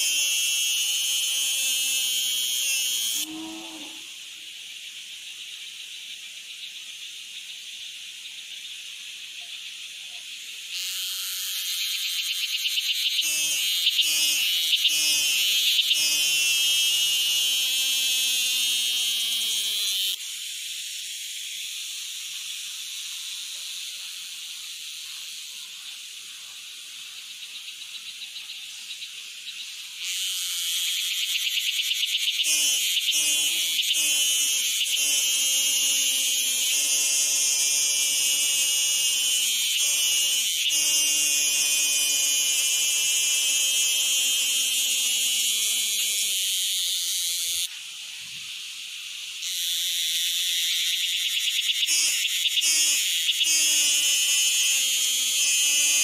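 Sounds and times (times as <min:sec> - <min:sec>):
shrill insect buzzing: 0:00.0 - 0:04.5, 0:10.3 - 0:47.8, 0:48.5 - 0:56.0.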